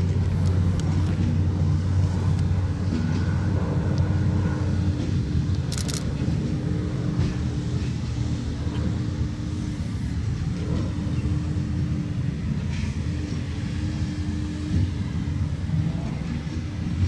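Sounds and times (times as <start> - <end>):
train car rumbling on track: 0.0 - 17.0.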